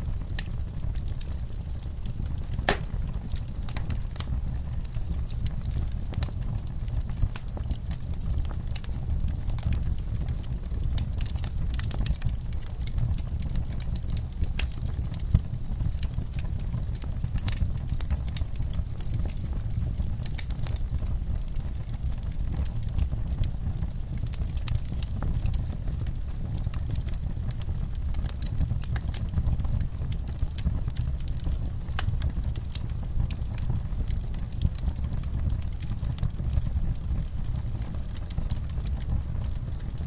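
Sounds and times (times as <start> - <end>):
fire crackling and popping: 0.0 - 40.0.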